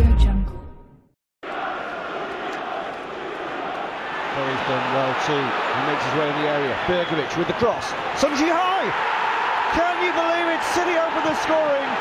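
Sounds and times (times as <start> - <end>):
stadium crowd roar: 1.4 - 12.0.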